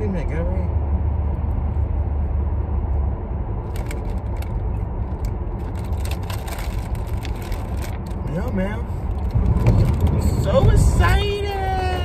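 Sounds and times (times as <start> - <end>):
car road rumble: 0.0 - 12.0.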